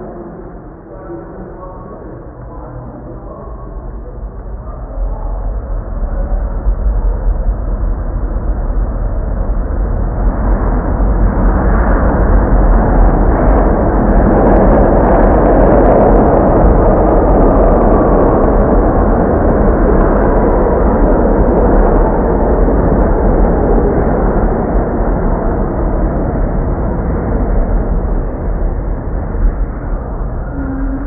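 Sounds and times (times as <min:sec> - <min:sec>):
subway train rumbling: 0:00.0 - 0:31.0.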